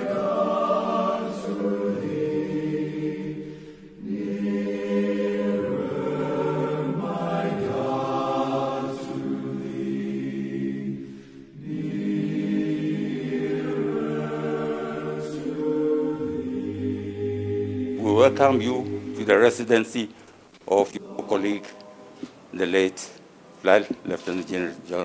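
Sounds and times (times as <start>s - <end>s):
slow choral singing: 0.0s - 25.0s.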